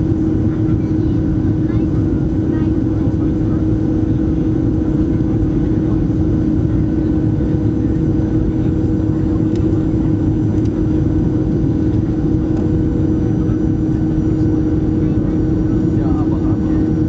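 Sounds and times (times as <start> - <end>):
airplane jet engines droning: 0.0 - 17.0.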